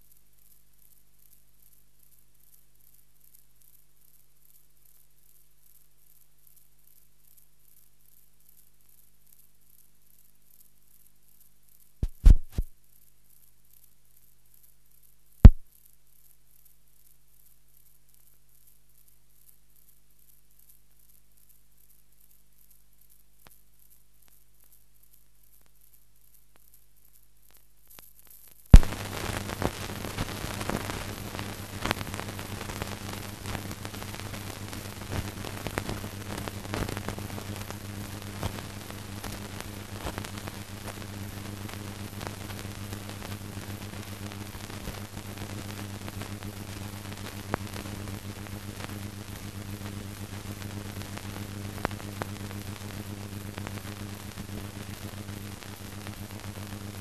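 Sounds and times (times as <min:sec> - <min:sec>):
crackles: 0:00.0 - 0:57.0
film soundtrack hiss: 0:00.0 - 0:57.0.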